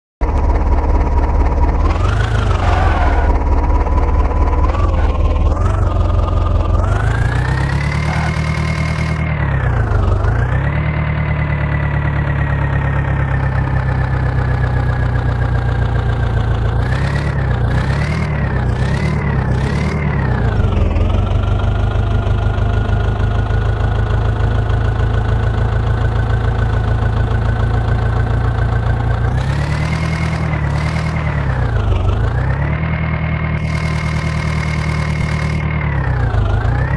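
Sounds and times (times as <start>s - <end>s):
diesel engine running at high revs: 0.2s - 36.9s.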